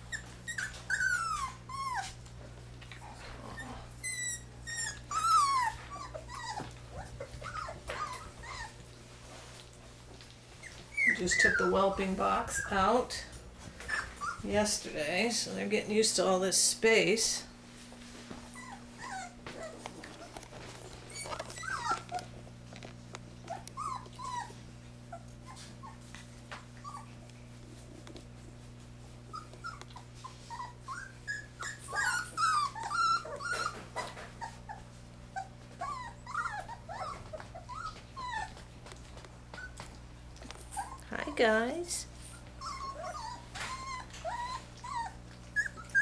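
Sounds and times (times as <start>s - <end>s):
puppies whining: 0.0s - 15.0s, 18.2s - 46.0s.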